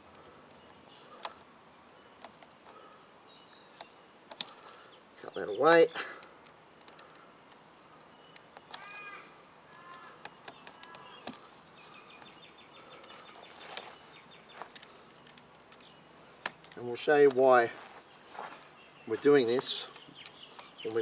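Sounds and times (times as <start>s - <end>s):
bird calls: 0.0s - 21.0s.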